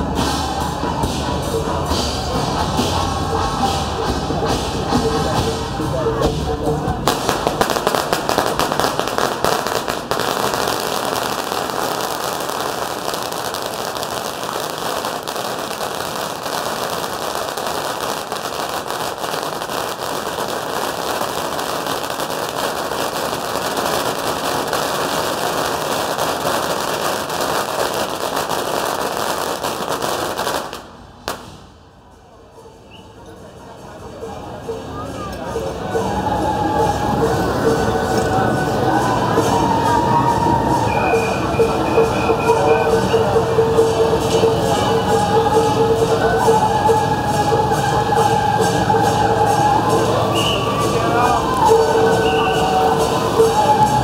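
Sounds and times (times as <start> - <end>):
firecrackers crackling: 0.0 - 32.2, 33.8 - 54.0.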